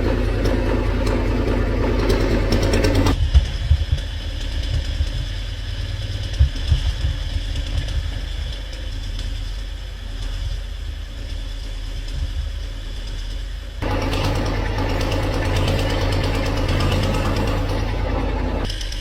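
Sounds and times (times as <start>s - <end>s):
bulldozer engine rumbling: 0.0s - 19.0s.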